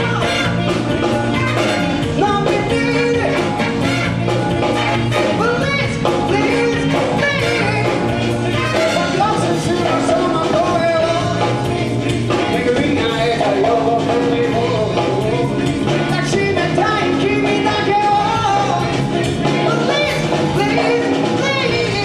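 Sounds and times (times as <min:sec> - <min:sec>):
live band music with singer: 0:00.0 - 0:22.0.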